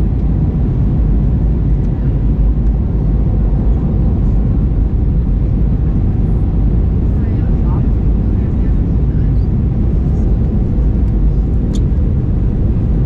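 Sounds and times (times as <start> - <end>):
airplane cabin engine roar: 0.0 - 13.0.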